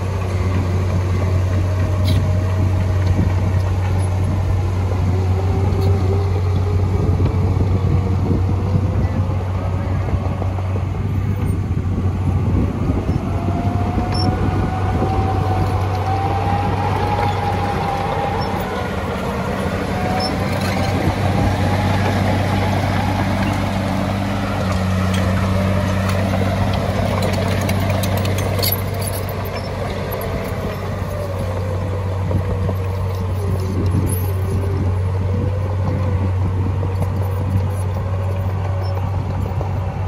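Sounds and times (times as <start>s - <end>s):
diesel engine drone: 0.0s - 40.0s.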